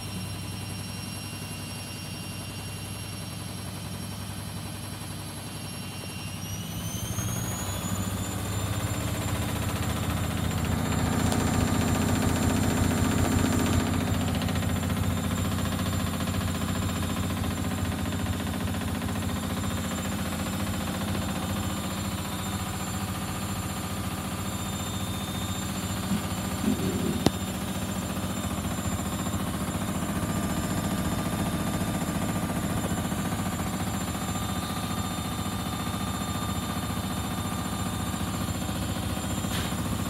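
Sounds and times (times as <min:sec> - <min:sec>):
washing machine motor whine: 0:00.0 - 0:40.0.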